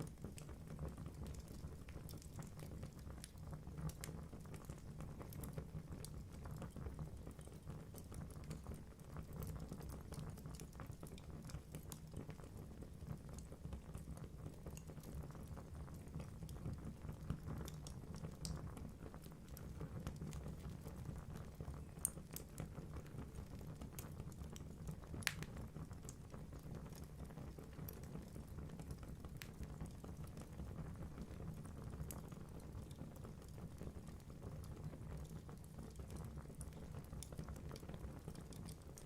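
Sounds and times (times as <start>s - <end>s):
logs crackling and popping: 0.0s - 12.5s, 13.4s - 39.0s
low rumble of fire flames: 0.0s - 39.0s.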